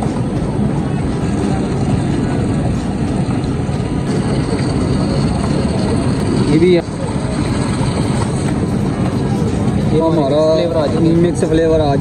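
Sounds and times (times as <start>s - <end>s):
ice cream machine drone: 0.0s - 12.0s.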